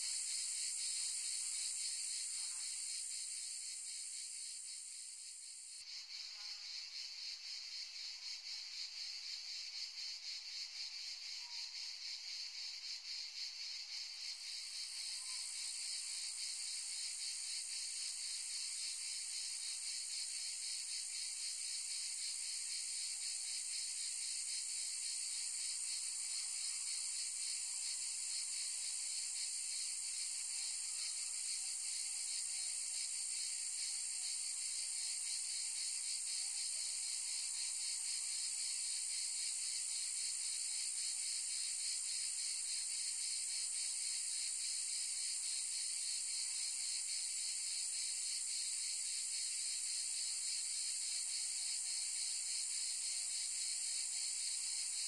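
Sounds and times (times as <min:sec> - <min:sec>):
insect chorus buzzing: 0:00.0 - 0:55.0.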